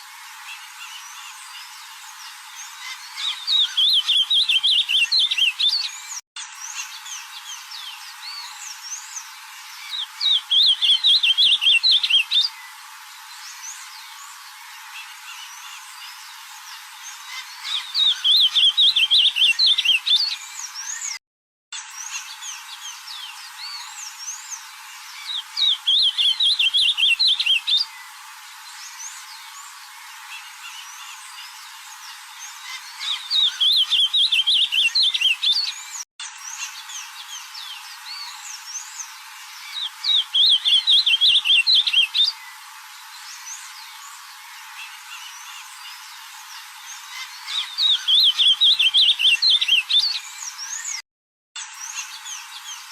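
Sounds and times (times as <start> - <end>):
faint bird chirps: 0.0 - 21.2, 21.8 - 51.0
bird warbling song: 0.3 - 21.2, 21.8 - 51.0, 51.6 - 52.9.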